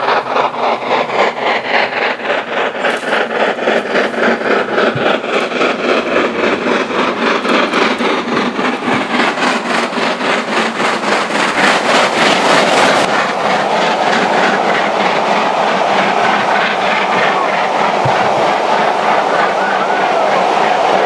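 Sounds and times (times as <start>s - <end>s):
steam locomotive exhaust beats: 0.0s - 21.0s
train wheels on rail: 0.0s - 21.0s.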